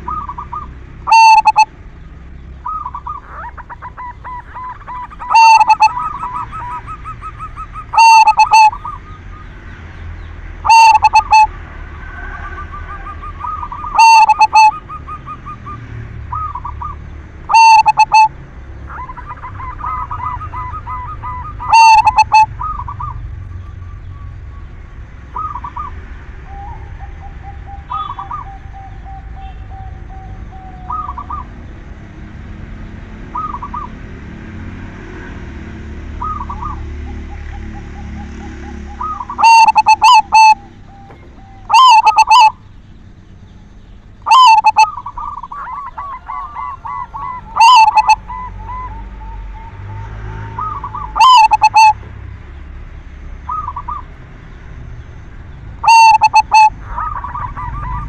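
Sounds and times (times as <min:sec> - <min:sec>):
dove cooing: 0:00.0 - 0:09.7, 0:10.5 - 0:23.4, 0:25.4 - 0:31.7, 0:36.1 - 0:43.0, 0:44.2 - 0:52.2, 0:53.5 - 0:54.1, 0:55.8 - 0:58.0.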